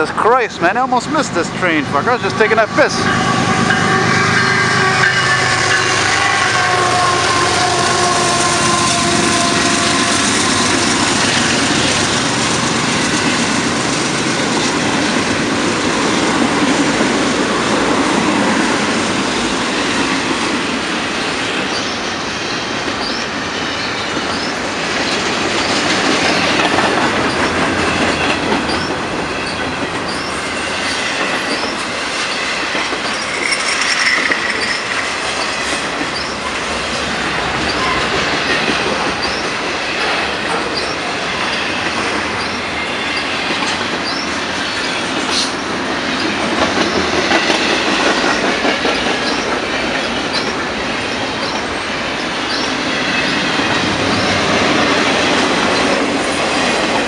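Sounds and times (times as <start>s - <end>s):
diesel locomotive drone: 0.0s - 57.0s
freight train rumble and clatter: 0.0s - 57.0s.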